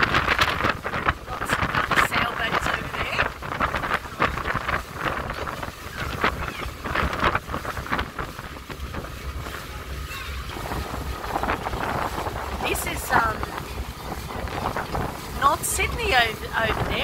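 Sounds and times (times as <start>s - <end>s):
ferry engine rumble: 0.0s - 17.0s
water washing along hull: 0.0s - 17.0s
wind buffeting microphone: 0.0s - 17.0s.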